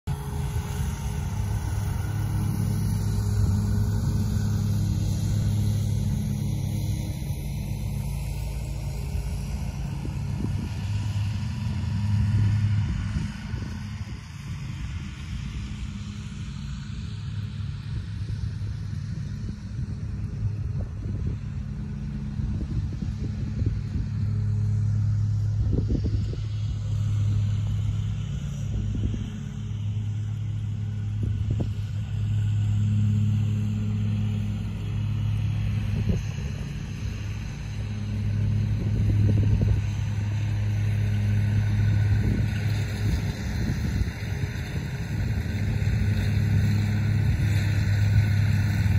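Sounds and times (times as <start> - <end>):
low motor hum: 0.0 - 48.9.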